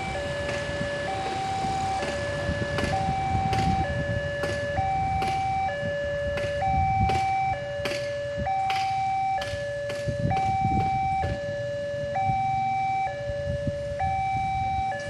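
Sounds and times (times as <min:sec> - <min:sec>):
level crossing two-tone alarm: 0:00.0 - 0:15.0
street traffic rumble: 0:00.0 - 0:15.0.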